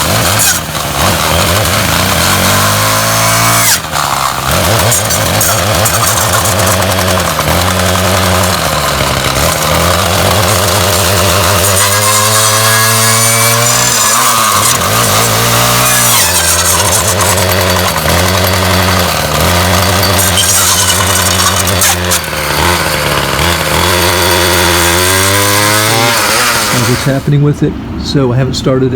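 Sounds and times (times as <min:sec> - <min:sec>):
trimmer engine revving: 0:00.0 - 0:27.4.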